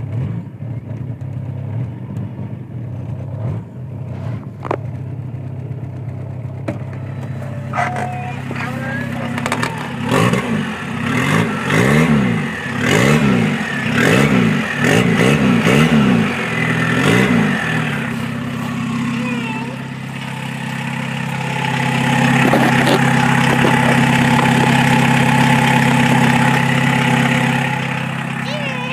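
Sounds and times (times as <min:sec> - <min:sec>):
diesel engine revving: 0:00.0 - 0:28.9.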